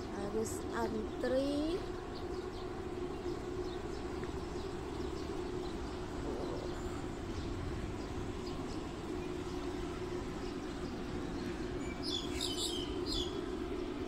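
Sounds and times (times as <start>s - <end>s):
faint hum: 0.0s - 14.0s
small birds chirping: 0.0s - 14.0s.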